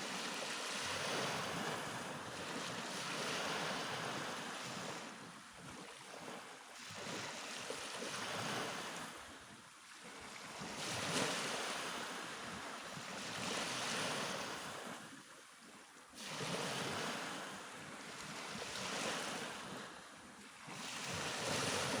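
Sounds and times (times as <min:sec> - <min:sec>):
waves breaking on shore: 0:00.0 - 0:15.4, 0:16.1 - 0:22.0.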